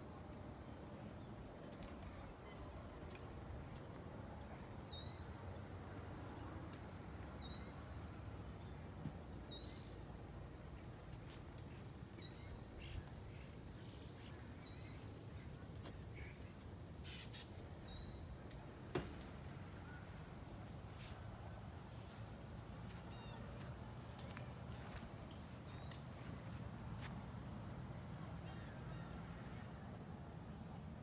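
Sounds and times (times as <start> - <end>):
low outdoor background rumble: 0.0 - 31.0.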